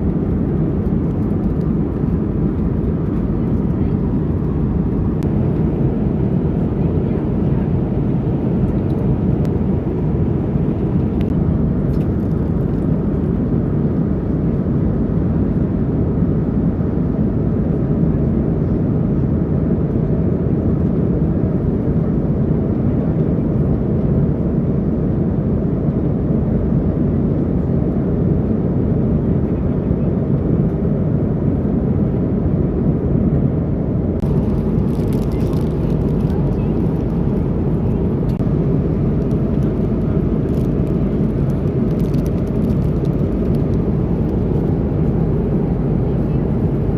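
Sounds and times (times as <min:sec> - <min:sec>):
airliner cabin engine hum: 0:00.0 - 0:46.9.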